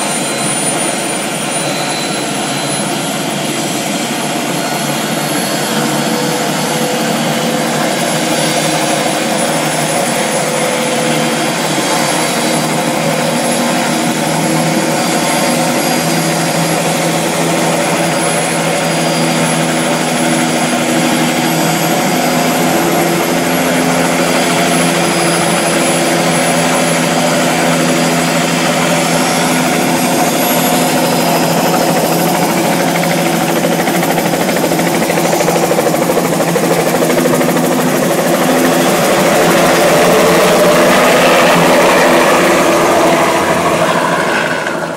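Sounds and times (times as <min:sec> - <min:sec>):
helicopter engine and rotor drone: 0:00.0 - 0:44.9
helicopter turbine whine: 0:00.0 - 0:44.9.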